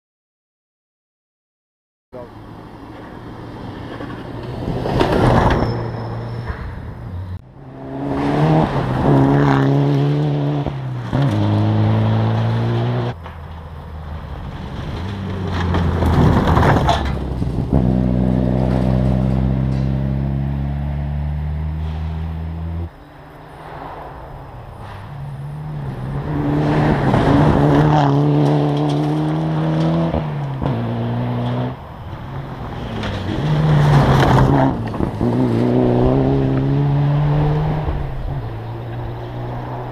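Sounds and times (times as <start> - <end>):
rally car engines revving: 2.2 - 13.4, 14.0 - 39.9.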